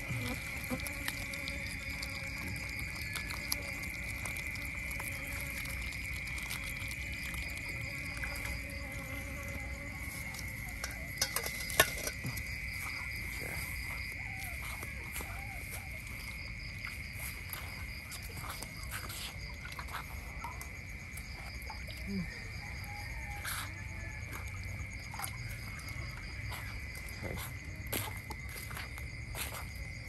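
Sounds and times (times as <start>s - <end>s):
insect chorus buzzing: 0.0s - 30.0s.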